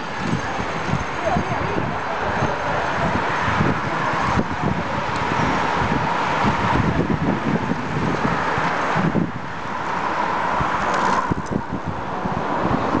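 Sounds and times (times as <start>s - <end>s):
bicycles whirring past: 0.0s - 13.0s
wind rumbling on microphone: 0.0s - 13.0s.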